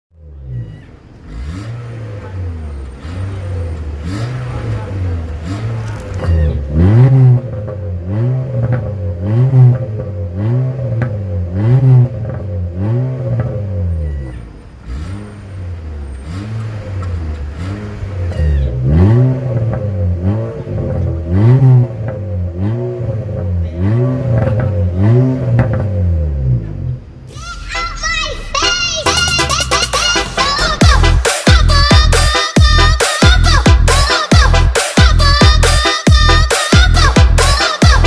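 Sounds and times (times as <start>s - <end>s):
car engine revving: 0.2s - 27.3s, 28.2s - 38.0s.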